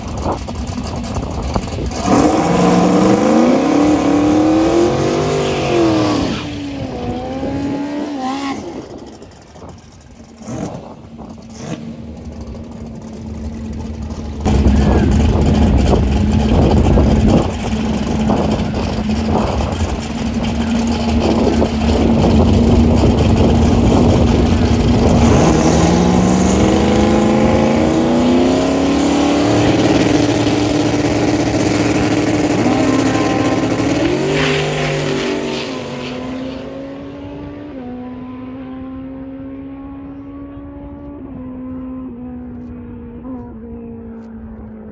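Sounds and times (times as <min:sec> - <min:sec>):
gear changes: 0:00.0 - 0:41.1
drag car engine accelerating: 0:00.0 - 0:44.9.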